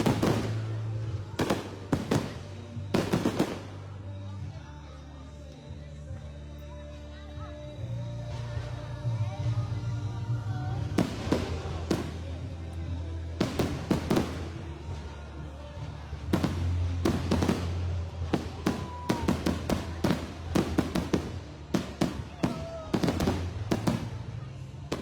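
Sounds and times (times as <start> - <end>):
fireworks bangs and crackles: 0.0 - 4.5, 8.2 - 25.0.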